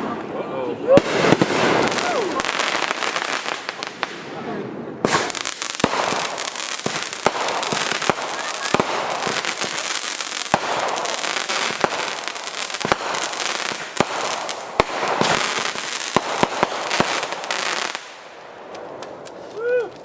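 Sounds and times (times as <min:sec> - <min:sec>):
fireworks bangs: 0:00.9 - 0:19.4
fireworks crackling: 0:00.9 - 0:20.0.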